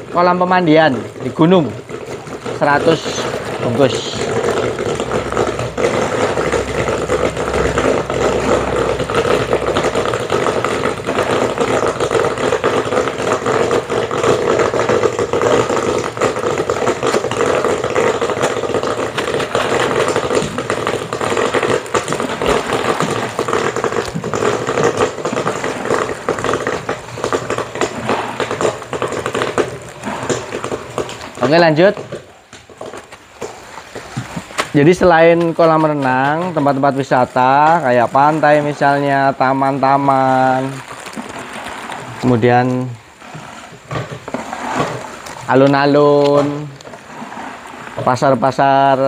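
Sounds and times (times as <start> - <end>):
plastic packaging rustling: 0.0 - 49.0
popcorn machine humming and crackling: 0.0 - 49.0.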